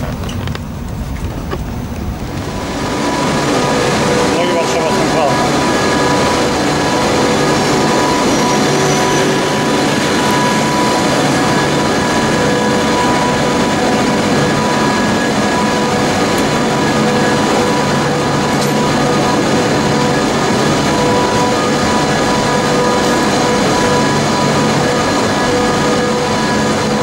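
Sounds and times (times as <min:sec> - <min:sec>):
passenger train running: 0:00.0 - 0:27.0.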